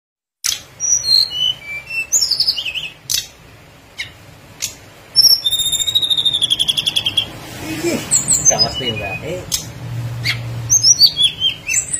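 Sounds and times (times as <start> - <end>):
bird whistling and warbling: 0.4 - 3.3, 4.0 - 7.4, 8.0 - 11.9
high bird trill: 0.4 - 7.4, 8.0 - 11.9.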